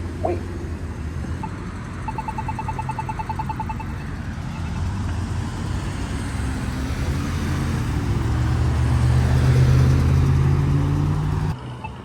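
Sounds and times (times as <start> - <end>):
vehicle engine running: 0.0 - 11.6
road noise: 0.0 - 12.0.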